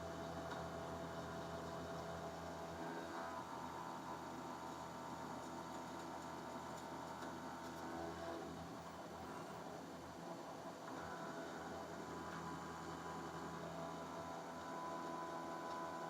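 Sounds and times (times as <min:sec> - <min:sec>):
mill motor electric hum: 0:00.0 - 0:16.0.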